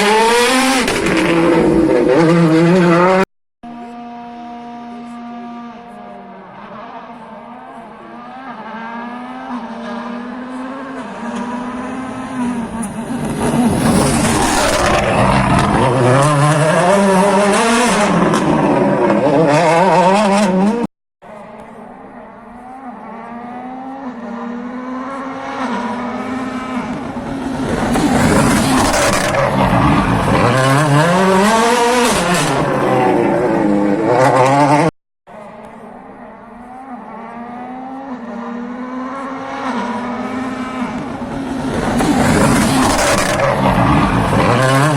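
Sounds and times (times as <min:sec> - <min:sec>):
rally car approaching: 0:00.0 - 0:44.9
rally car engine passing: 0:03.8 - 0:44.9.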